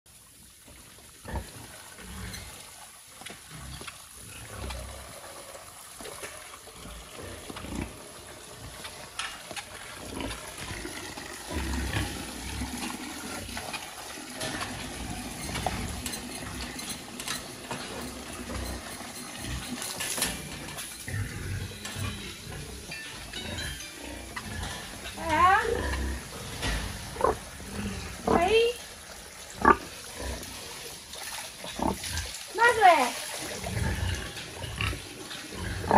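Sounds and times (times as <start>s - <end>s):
hose spraying water: 0.1s - 35.9s
pigs grunting: 1.2s - 32.4s, 33.3s - 35.9s.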